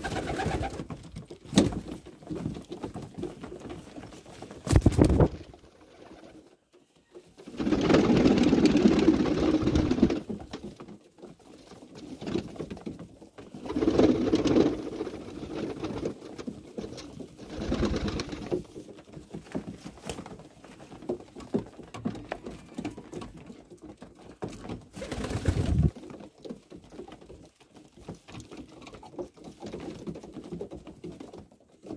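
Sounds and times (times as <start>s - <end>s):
pigeons pecking corn: 0.0s - 31.9s.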